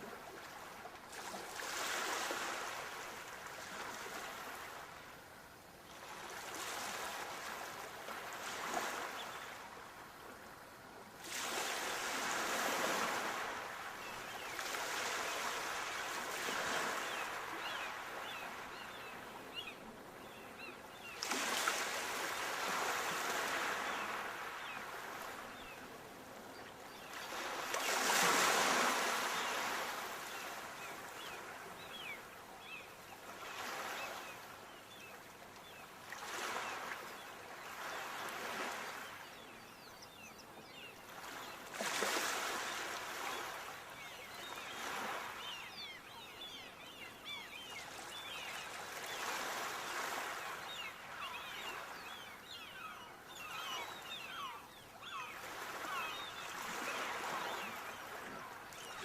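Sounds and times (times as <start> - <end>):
sea waves breaking on shore: 0.0 - 5.2, 5.9 - 35.1, 35.7 - 39.5, 40.8 - 59.0.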